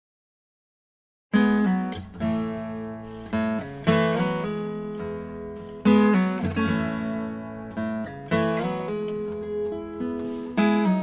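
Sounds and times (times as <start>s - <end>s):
acoustic guitar strummed chords: 1.4s - 11.0s.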